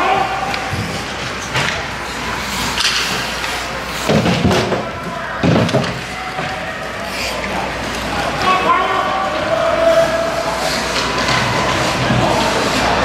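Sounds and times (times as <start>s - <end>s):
people talking: 0.0s - 13.0s.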